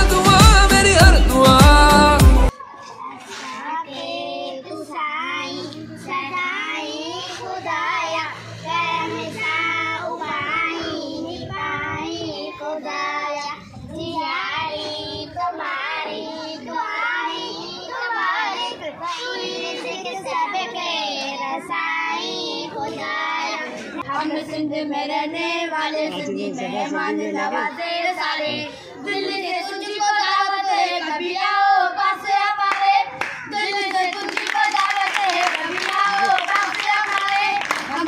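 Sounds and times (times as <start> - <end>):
girls singing together: 0.0 - 38.0.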